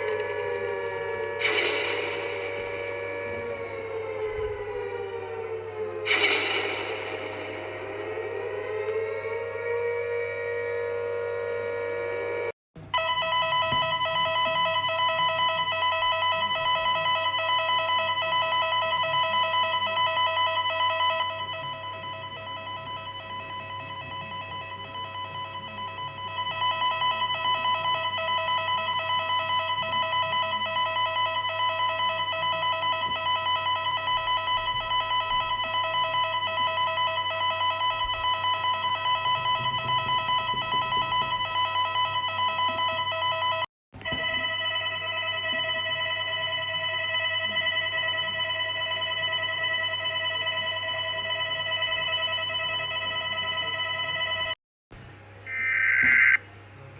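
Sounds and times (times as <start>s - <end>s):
pulsed electronic alarm tones: 0.0s - 54.6s, 55.4s - 56.4s.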